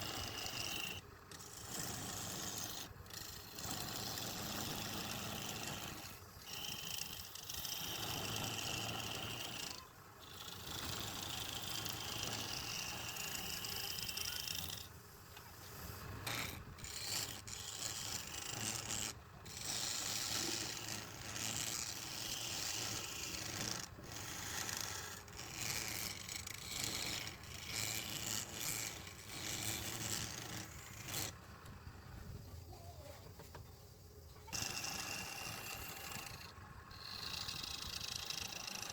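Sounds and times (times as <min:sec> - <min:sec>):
tool scraping spinning wood on lathe: 0:00.0 - 0:38.9.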